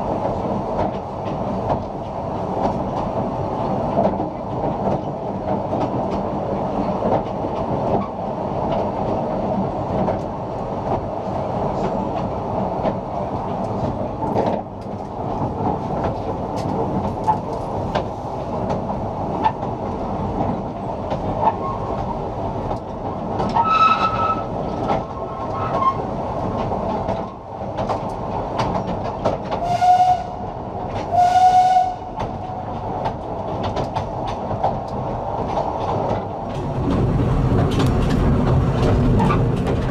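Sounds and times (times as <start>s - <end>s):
wheels clicking over rail joints: 0.0s - 31.2s, 32.0s - 39.9s
steam train rumbling: 0.0s - 39.9s.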